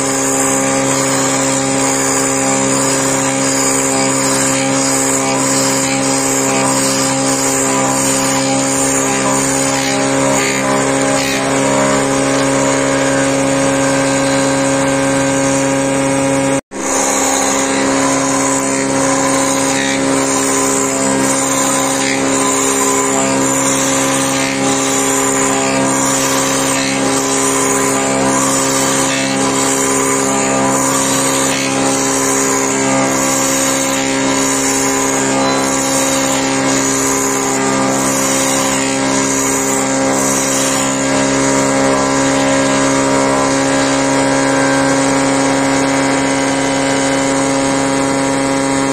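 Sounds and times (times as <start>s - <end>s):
drill bit boring into wood: 0.0s - 48.9s
wood boring machine motor hum: 0.0s - 48.9s.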